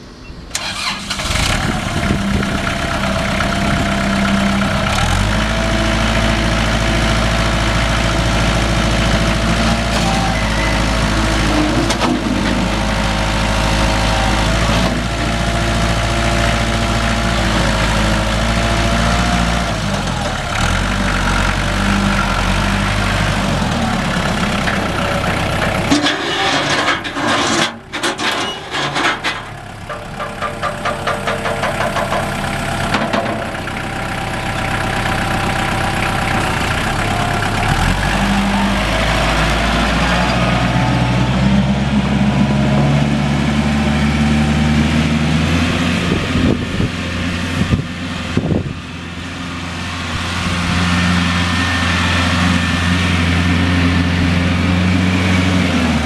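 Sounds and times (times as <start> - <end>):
tractor diesel engine running: 0.0 - 56.0
engine clattering: 0.5 - 56.0.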